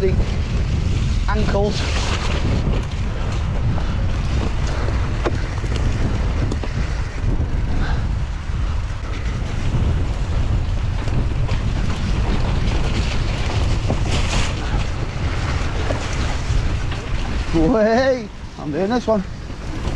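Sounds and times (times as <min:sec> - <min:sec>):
bike clicks and clacks: 0:00.0 - 0:17.5, 0:19.3 - 0:19.9
tyres rumbling on rough dirt: 0:00.0 - 0:19.9
wind buffeting microphone: 0:00.0 - 0:19.9.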